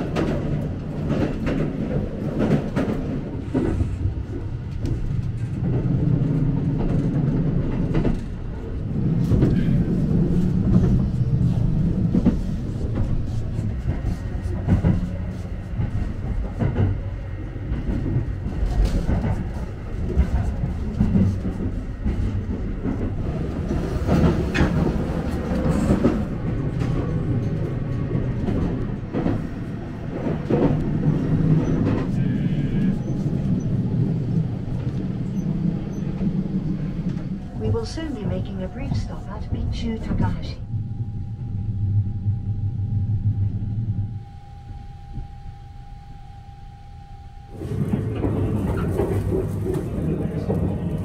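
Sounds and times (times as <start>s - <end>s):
rail clicks and knocks: 0.0s - 41.7s, 43.9s - 51.0s
train running rumble: 0.0s - 51.0s.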